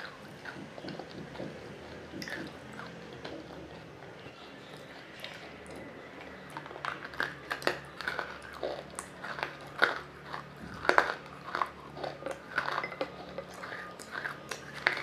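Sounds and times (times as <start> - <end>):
wet crunchy chewing: 0.0 - 15.0.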